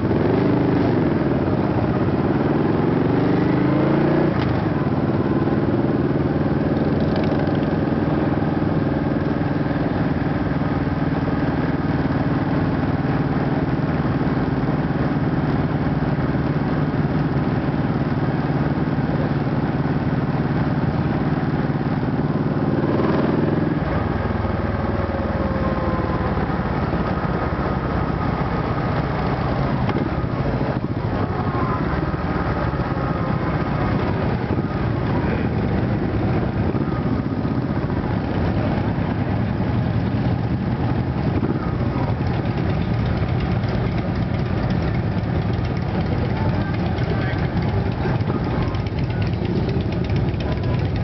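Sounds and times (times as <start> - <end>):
motorcycle engine at low speed: 0.0 - 51.0
other motorcycle engines: 0.0 - 51.0.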